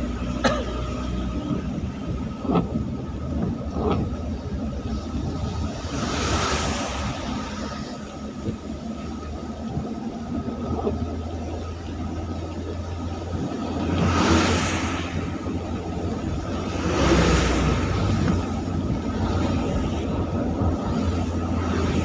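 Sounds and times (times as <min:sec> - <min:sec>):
traffic engine drone: 0:00.0 - 0:22.0.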